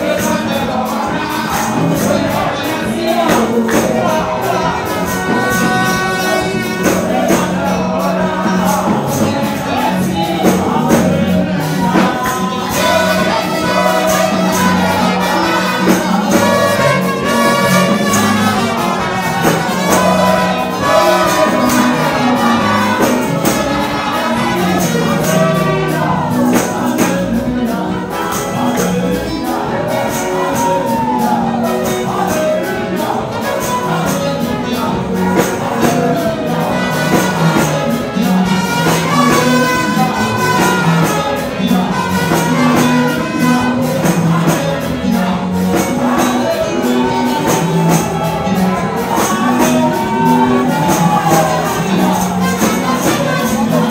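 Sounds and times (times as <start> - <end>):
amplified band accompaniment: 0.0 - 53.9
steady percussion beat: 0.0 - 53.9
woman and man singing: 0.0 - 53.9.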